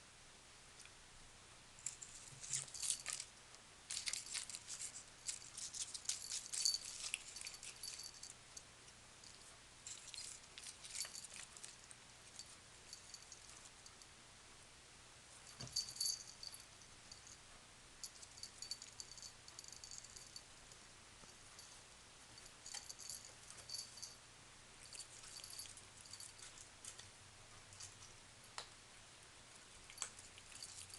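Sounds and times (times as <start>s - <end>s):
faint high light rattling: 1.8s - 14.2s, 15.3s - 28.6s, 29.6s - 30.9s.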